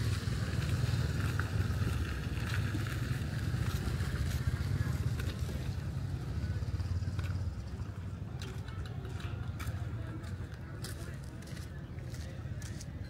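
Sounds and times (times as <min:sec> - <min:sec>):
vehicle engine rumbling: 0:00.0 - 0:11.5.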